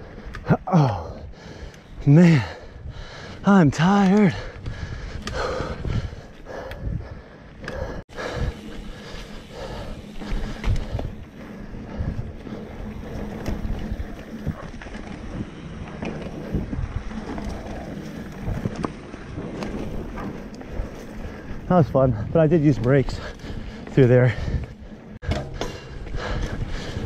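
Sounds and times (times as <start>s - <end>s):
bike rattling over bumps: 0.0s - 27.0s
bike tires rumbling: 0.0s - 27.0s
wind buffeting microphone: 0.0s - 27.0s.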